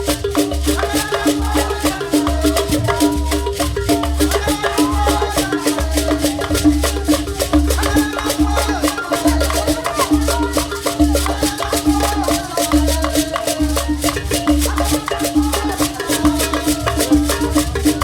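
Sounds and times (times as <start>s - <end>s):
traditional dance music: 0.0s - 18.0s.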